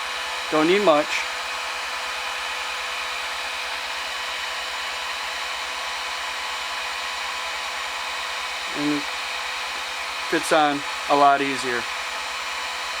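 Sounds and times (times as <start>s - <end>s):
heat gun blowing air: 0.0s - 13.0s.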